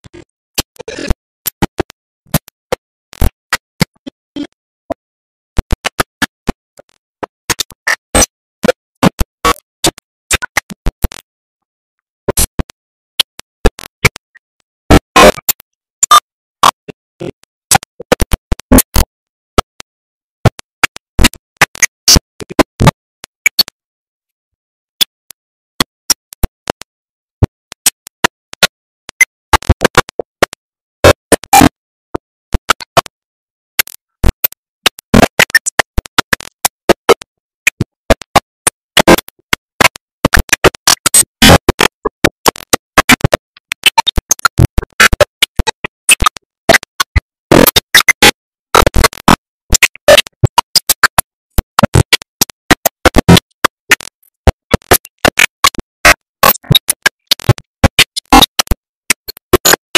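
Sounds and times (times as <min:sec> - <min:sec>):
corrupted music snatches and crackles: 0:00.1 - 0:05.0, 0:05.6 - 0:11.3, 0:12.3 - 0:23.8, 0:24.9 - 0:33.2, 0:33.8 - 0:59.9.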